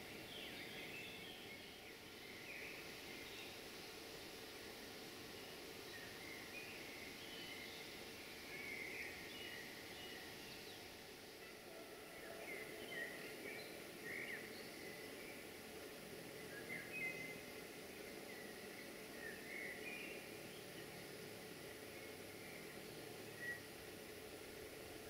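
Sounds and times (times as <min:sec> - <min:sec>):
faint background hiss: 0:00.0 - 0:25.0.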